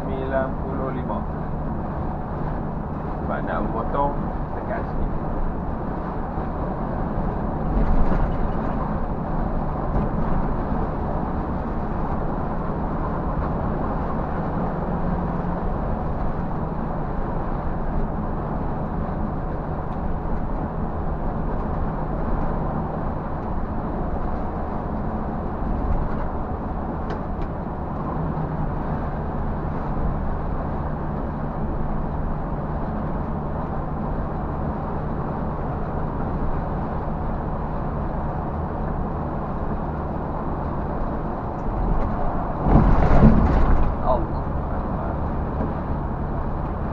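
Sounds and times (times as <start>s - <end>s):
bus engine hum: 0.0s - 46.9s
road noise drone: 0.0s - 46.9s.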